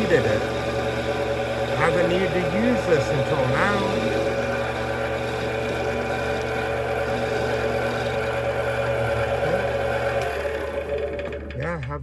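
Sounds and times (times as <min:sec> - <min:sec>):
metal lathe motor humming: 0:00.0 - 0:12.0.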